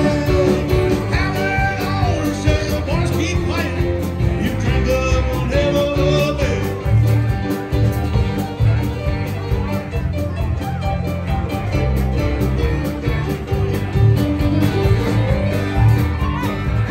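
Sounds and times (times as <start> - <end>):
live country-rock band: 0.0 - 16.9.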